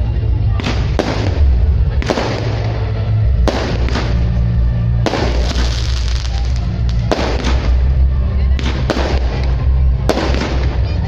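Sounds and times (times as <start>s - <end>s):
fireworks bursting: 0.4s - 11.0s.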